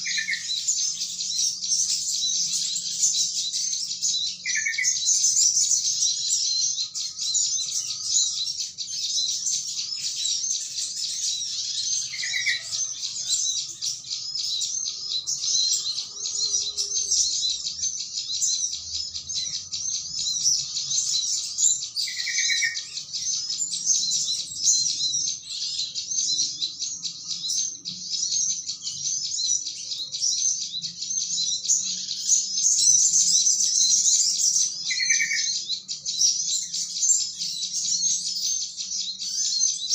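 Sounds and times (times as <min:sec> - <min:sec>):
flock of small birds chattering: 0:00.0 - 0:39.9.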